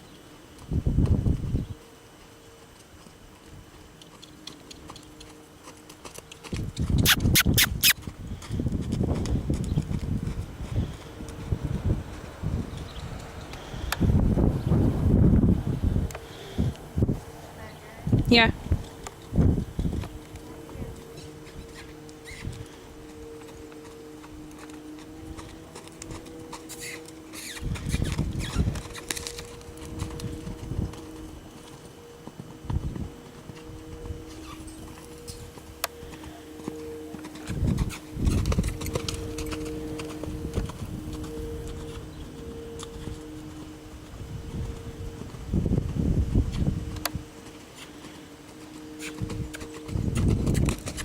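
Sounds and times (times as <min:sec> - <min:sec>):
horse hooves on hard ground: 0:00.0 - 0:17.8, 0:18.6 - 0:51.0
low rumble of movement: 0:08.1 - 0:47.7, 0:48.6 - 0:51.0.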